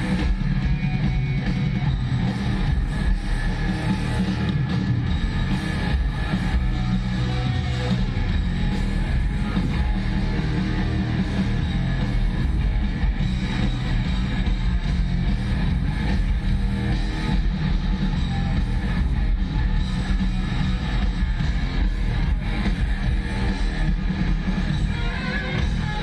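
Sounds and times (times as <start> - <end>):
heavy metal band playing live: 0.0 - 26.0.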